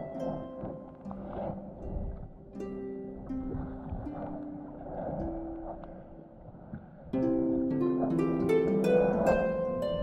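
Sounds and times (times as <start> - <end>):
plucked string music: 0.0 - 6.2, 7.2 - 10.0.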